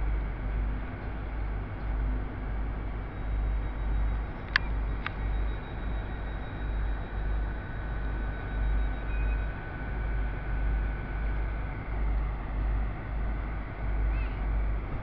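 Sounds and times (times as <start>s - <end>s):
faint steady whine: 0.0s - 15.0s
train rumbling: 0.0s - 15.0s.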